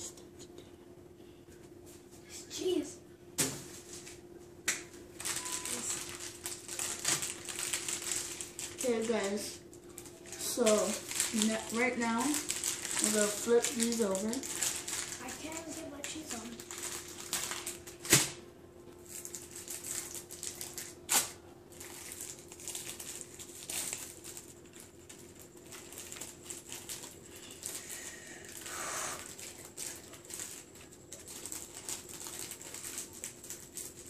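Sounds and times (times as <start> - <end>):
faint steady hum: 0.0 - 34.0
bread and cheese handling noise: 5.2 - 18.3, 19.0 - 34.0.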